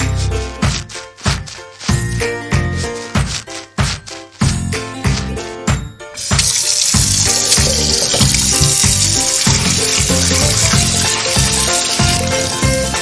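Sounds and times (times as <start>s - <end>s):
background music with steady beat: 0.0s - 13.0s.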